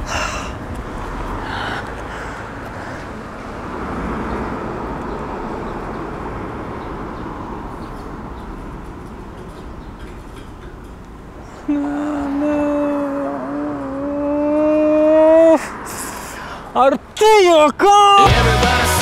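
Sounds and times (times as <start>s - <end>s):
vehicle passing: 0.0s - 17.2s
outdoor background noise: 0.0s - 19.0s.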